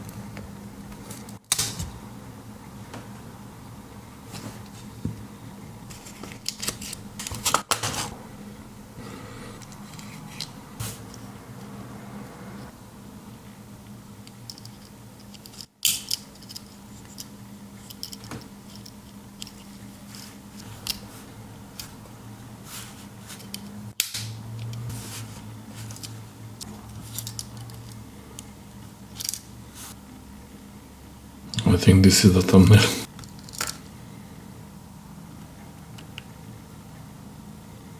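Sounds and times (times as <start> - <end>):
low steady hum: 0.0 - 37.9.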